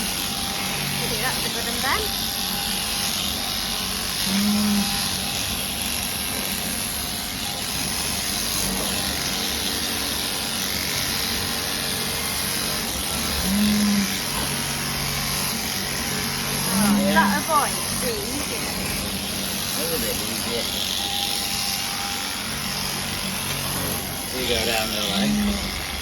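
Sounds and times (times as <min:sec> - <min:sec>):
electric shears buzzing: 0:00.0 - 0:26.0.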